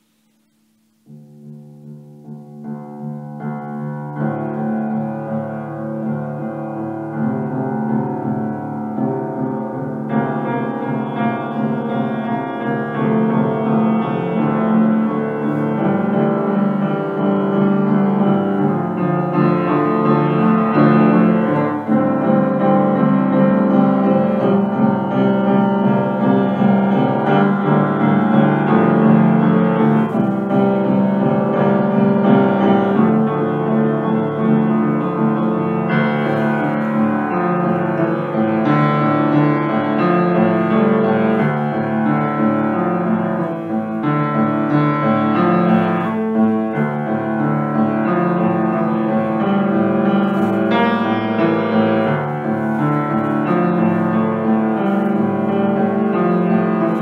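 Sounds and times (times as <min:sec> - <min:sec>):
electronic keyboard chords: 0:03.6 - 0:57.0.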